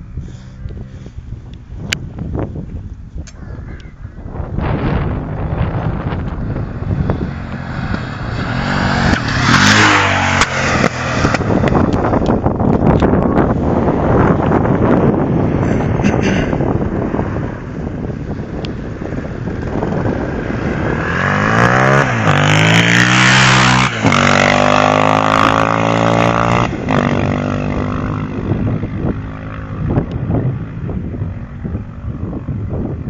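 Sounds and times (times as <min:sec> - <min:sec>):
motorcycle engine accelerating: 0:04.3 - 0:33.0.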